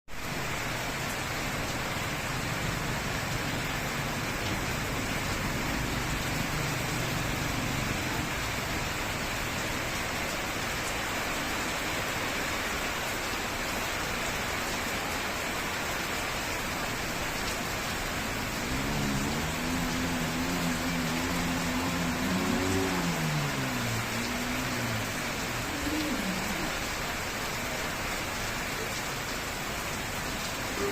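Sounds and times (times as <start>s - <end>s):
rain falling: 0.1s - 30.9s.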